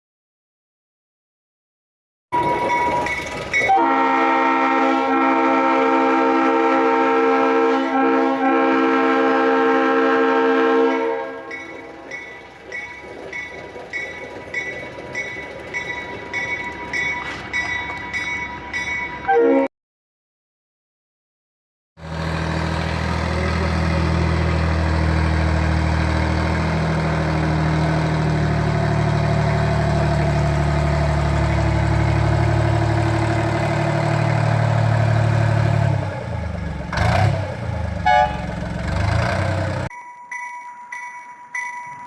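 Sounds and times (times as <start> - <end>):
locomotive engine running: 2.4 - 19.3, 22.0 - 42.0.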